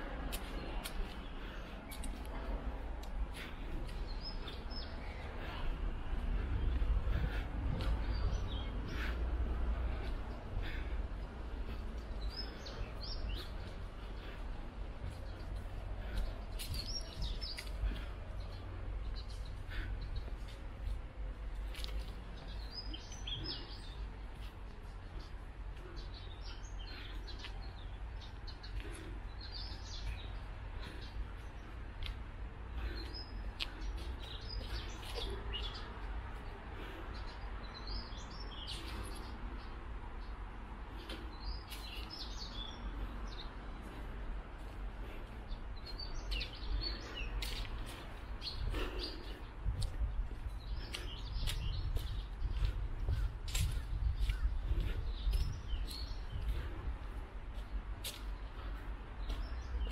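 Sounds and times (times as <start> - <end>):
low outdoor rumble: 0.0 - 59.9
small birds chirping: 0.0 - 59.9.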